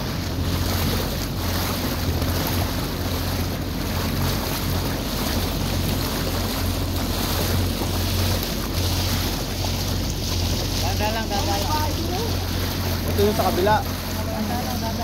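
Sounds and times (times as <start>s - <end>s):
motorboat engine running: 0.0s - 15.0s
water splashing along hull: 0.0s - 15.0s.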